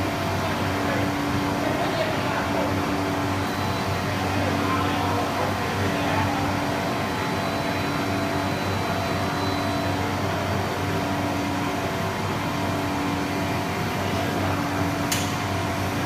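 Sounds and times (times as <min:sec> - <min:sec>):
machine hum with tones: 0:00.0 - 0:16.0.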